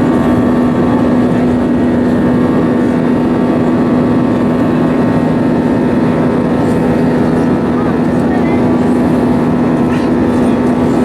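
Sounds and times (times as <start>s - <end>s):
constant hum: 0.0s - 11.0s
jet engines in cabin: 0.0s - 11.0s.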